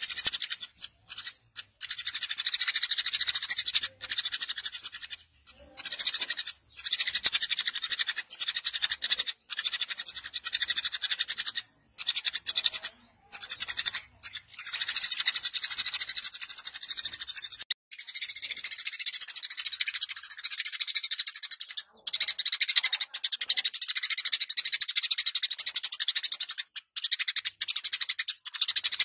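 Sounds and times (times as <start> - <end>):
sparrow chattering: 0.0 - 29.0.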